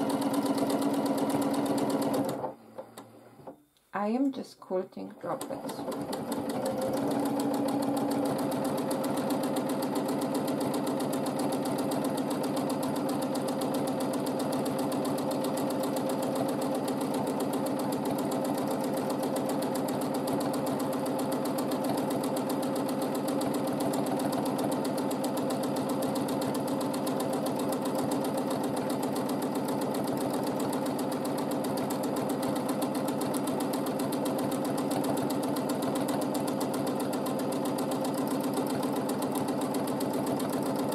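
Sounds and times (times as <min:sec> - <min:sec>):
sewing machine running: 0:00.0 - 0:02.6, 0:05.2 - 0:40.9.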